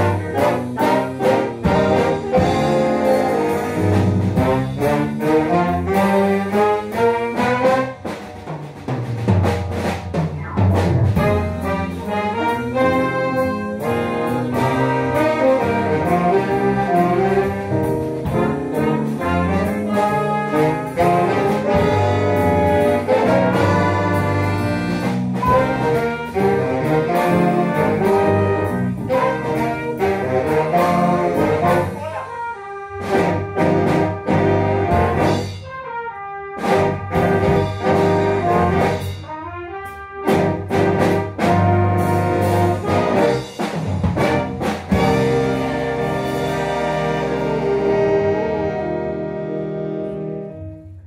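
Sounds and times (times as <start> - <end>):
jazz big band playing: 0.0 - 51.0.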